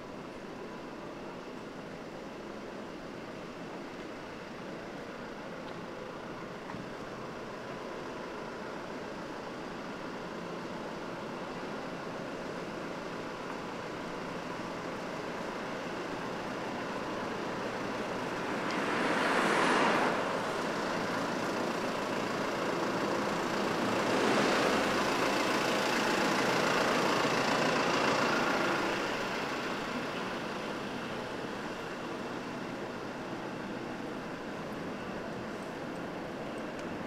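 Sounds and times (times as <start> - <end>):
road traffic passing: 0.1 - 37.0.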